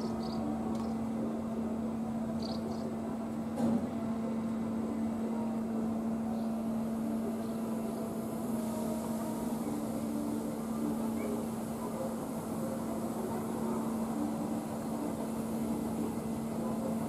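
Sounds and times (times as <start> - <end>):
ride machinery humming: 0.0 - 17.0.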